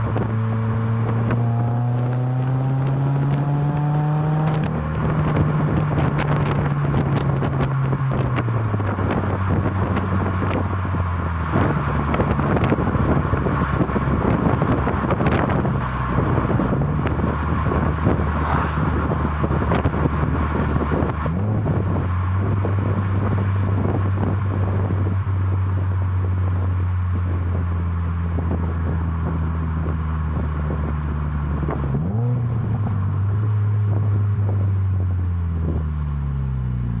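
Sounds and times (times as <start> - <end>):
car engine exhaust drone: 0.0 - 37.0.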